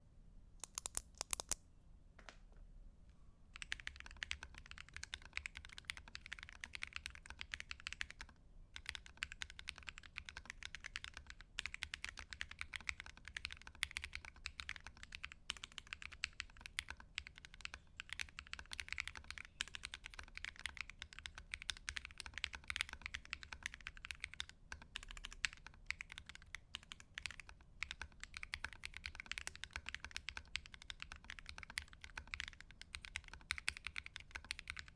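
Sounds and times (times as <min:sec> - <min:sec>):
mechanical keyboard typing: 0:00.6 - 0:01.6, 0:03.6 - 0:34.9.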